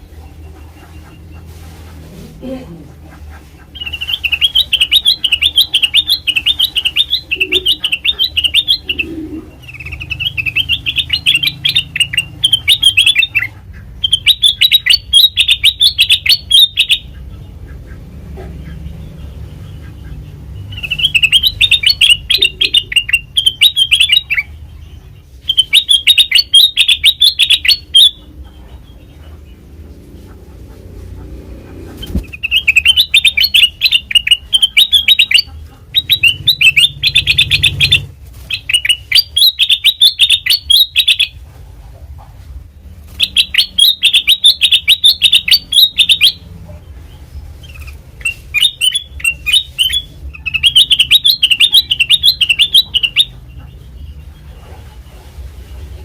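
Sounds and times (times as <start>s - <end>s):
bulbul chattering calls: 3.6s - 29.6s, 31.7s - 41.4s, 43.1s - 54.2s.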